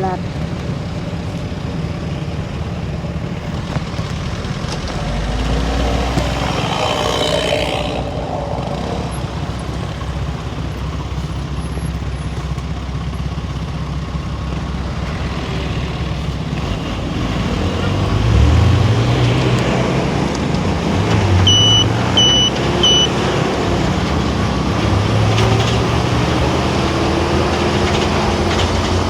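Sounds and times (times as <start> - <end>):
car road and engine rumble: 0.0 - 29.0.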